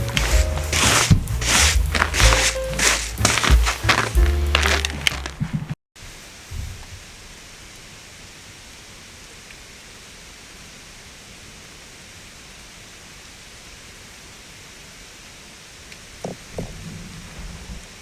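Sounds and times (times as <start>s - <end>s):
steady hiss: 0.0s - 4.2s, 6.0s - 18.0s.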